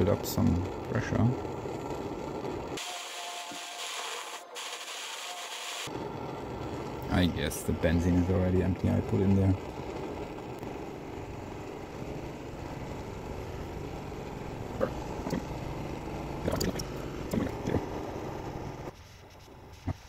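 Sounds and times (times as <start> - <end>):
camping stove burner hissing: 0.0 - 20.0.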